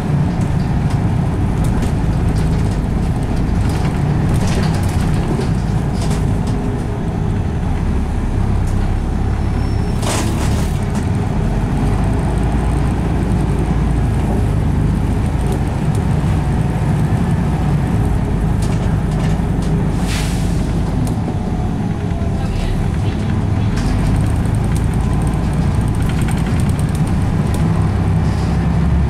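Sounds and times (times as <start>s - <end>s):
bus engine drone: 0.0s - 29.0s.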